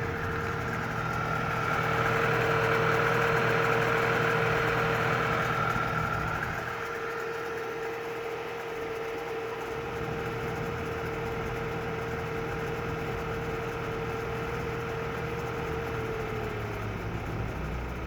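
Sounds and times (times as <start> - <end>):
car engine idling with whine: 0.0 - 18.0.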